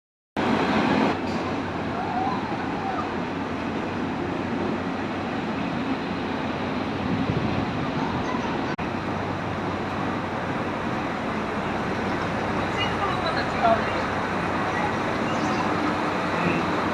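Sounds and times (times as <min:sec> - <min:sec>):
train and station rumble: 0:00.4 - 0:16.9.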